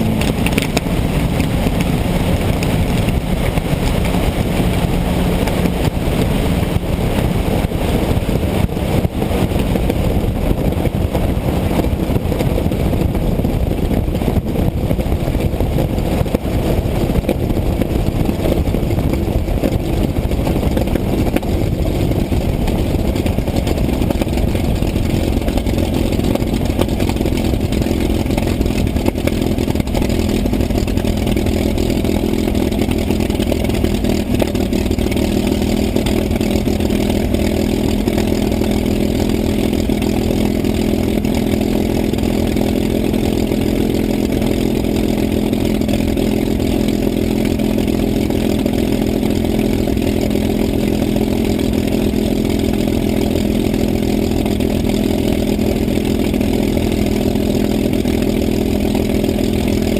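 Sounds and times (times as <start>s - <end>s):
piston aircraft engine droning: 0.0s - 59.9s.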